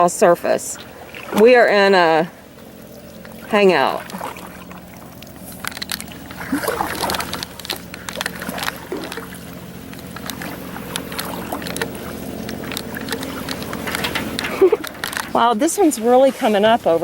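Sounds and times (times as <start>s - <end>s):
water sloshing: 0.0s - 17.0s.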